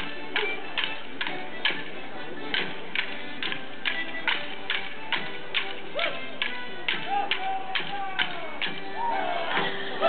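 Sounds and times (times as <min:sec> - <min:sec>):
wooden sticks clashing: 0:00.0 - 0:09.7
squeezebox folk tune: 0:00.0 - 0:10.0.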